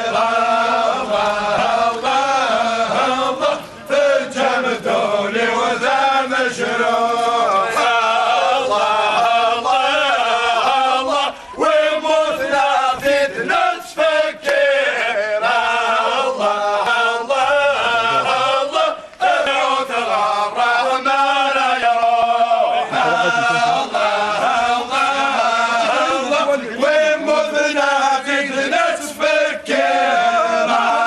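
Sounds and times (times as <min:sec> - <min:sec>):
men chanting in unison: 0:00.0 - 0:31.0.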